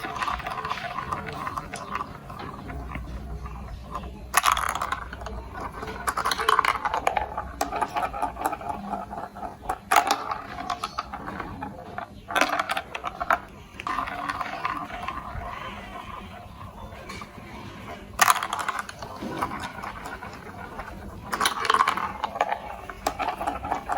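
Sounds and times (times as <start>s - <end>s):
marbles clattering on plastic blocks: 0.0s - 23.9s.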